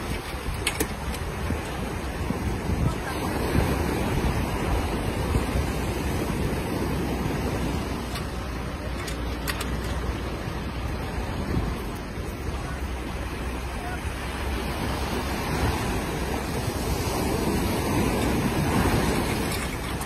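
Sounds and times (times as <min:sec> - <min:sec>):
surf breaking and washing: 0:00.0 - 0:20.0
wind buffeting microphone: 0:00.0 - 0:20.0.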